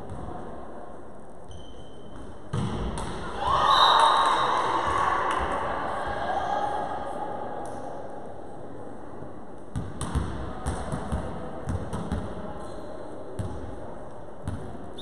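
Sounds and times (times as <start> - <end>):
murmur of hall: 0.0 - 15.0.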